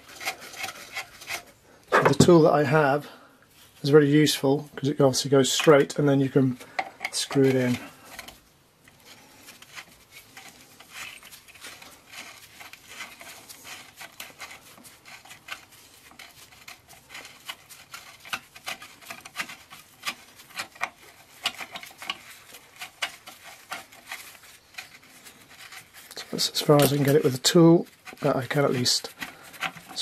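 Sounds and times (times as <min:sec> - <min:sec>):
small metal clicks and scrapes: 0:00.0 - 0:02.4, 0:03.8 - 0:30.0.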